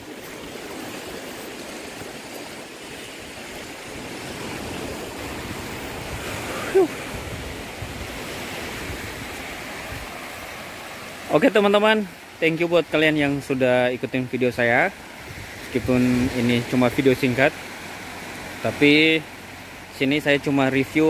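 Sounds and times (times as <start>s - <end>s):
small waves washing onto shore: 0.0s - 21.0s.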